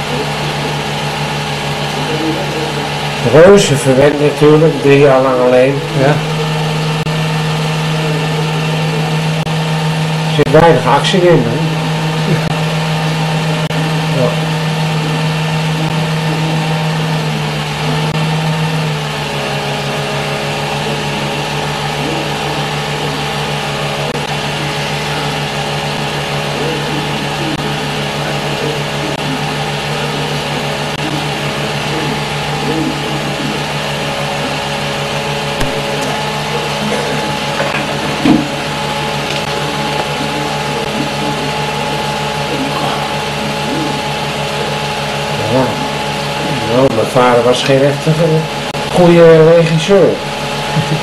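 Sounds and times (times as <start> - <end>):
film projector motor hum: 0.0 - 51.0.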